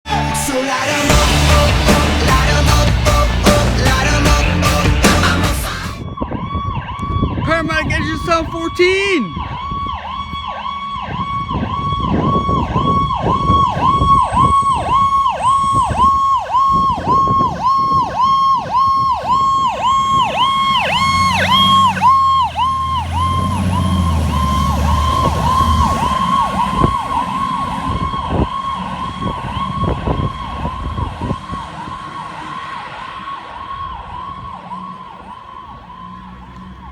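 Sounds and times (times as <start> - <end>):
fire engine siren warbling: 0.0 - 36.9
truck engine rumble: 0.0 - 36.9.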